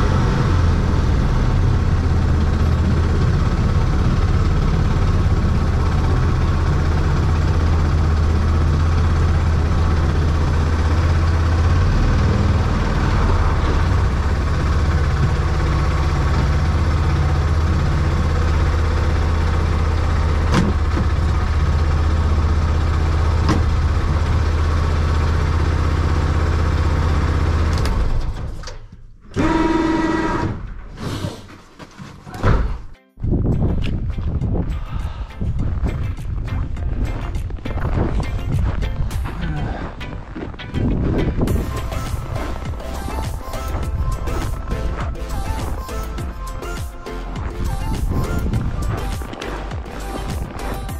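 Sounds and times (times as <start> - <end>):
engine droning: 0.0 - 30.9, 33.7 - 50.9.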